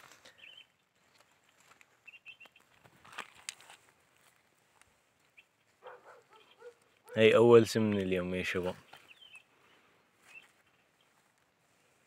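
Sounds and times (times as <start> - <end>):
footsteps clicking in dry grass: 0.0 - 12.0
rustling in dry grass: 0.0 - 12.0.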